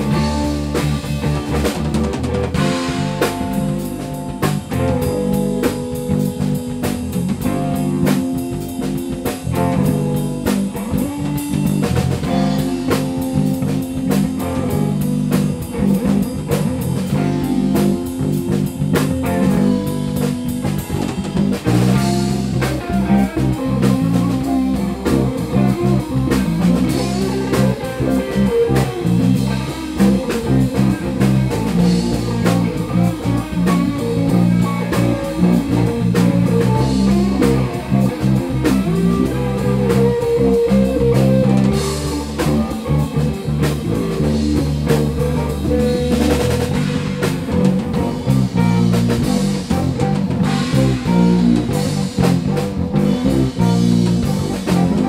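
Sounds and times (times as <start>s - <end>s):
bass guitar: 0.0s - 55.0s
drum kit beat: 0.0s - 55.0s
electric guitar: 0.0s - 55.0s
keyboard: 0.0s - 55.0s.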